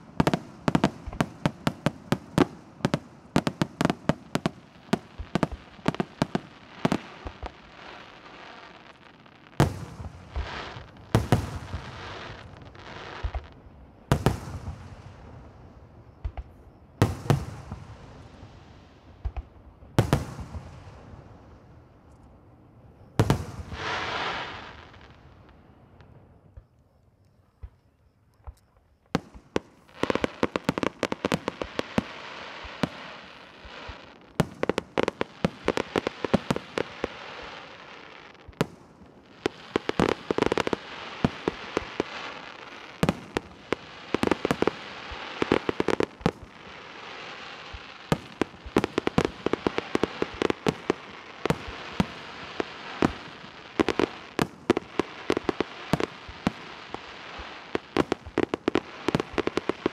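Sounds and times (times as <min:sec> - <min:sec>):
fireworks crackle: 0:00.0 - 0:15.4, 0:23.2 - 0:26.7, 0:29.1 - 0:59.9
fireworks bangs: 0:00.0 - 0:21.7, 0:29.1 - 0:59.9.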